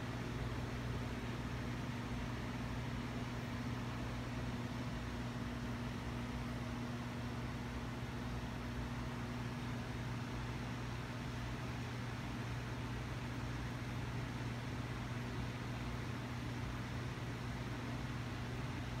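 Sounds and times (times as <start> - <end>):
electrical machine hum: 0.0 - 19.0
fan-like hiss: 0.0 - 19.0.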